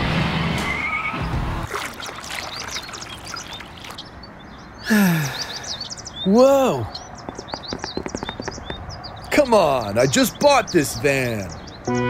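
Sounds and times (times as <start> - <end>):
birds chirping: 0.6 - 12.0.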